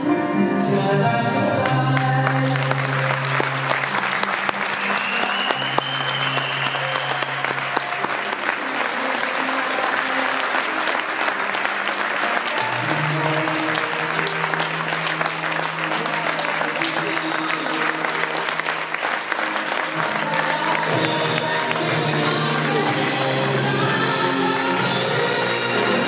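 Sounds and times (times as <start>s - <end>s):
music over speakers: 0.0s - 26.0s
crowd clapping: 1.6s - 26.0s.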